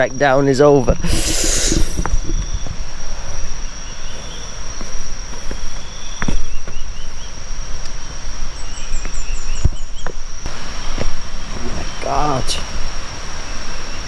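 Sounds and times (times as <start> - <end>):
faint insect chirping: 0.0 - 14.0
high-pitched insect drone: 0.0 - 14.0.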